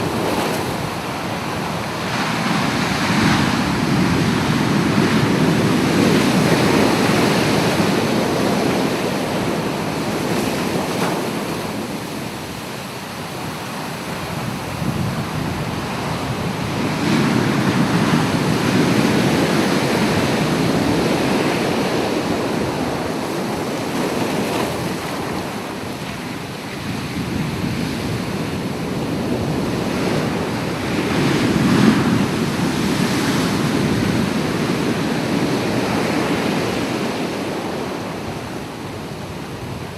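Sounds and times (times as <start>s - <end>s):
ocean waves breaking: 0.0s - 39.9s
wind buffeting microphone: 0.0s - 39.9s.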